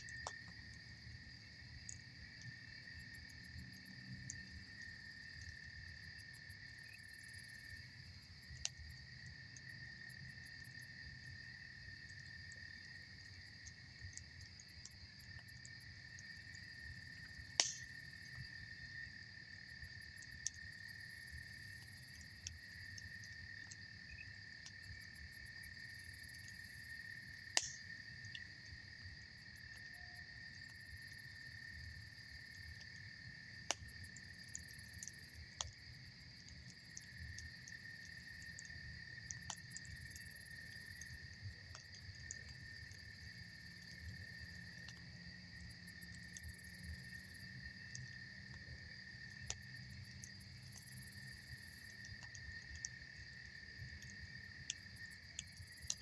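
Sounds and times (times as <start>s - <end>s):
campfire popping: 0.0s - 3.6s, 11.3s - 56.0s
crickets chirring: 0.0s - 56.0s.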